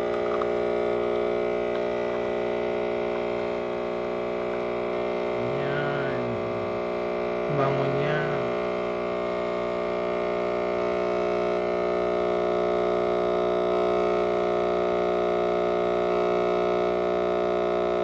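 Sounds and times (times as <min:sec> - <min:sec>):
coffee machine pump humming: 0:00.0 - 0:18.0.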